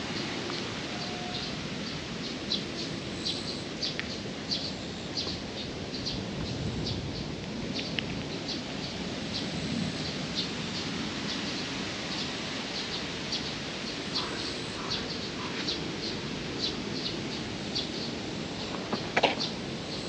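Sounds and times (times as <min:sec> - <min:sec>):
steady low outdoor rush: 0:00.0 - 0:20.0
small birds chirping: 0:00.1 - 0:20.0.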